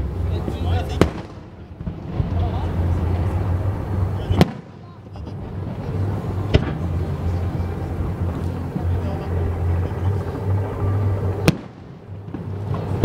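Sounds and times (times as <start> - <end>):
low rumble: 0.0 - 13.0
distant firework bangs: 0.2 - 13.0.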